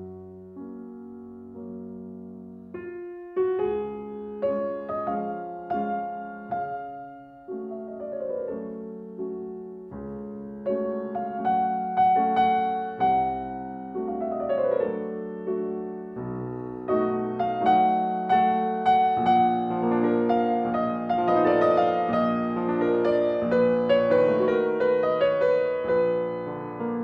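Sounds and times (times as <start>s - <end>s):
solo piano music: 0.0s - 27.0s.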